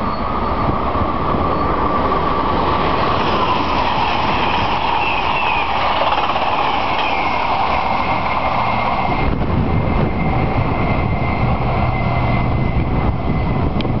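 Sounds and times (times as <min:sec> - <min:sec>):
passenger train rushing past: 0:00.0 - 0:14.0.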